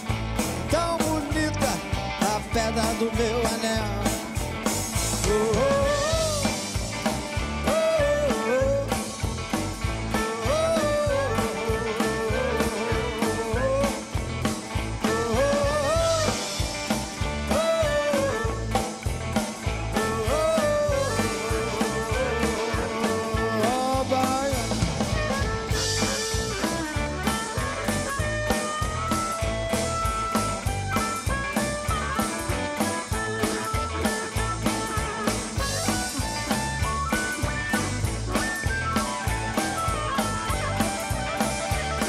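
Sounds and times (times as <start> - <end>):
blues band playing: 0.0 - 42.0
electric guitar bending phrase: 0.0 - 42.0.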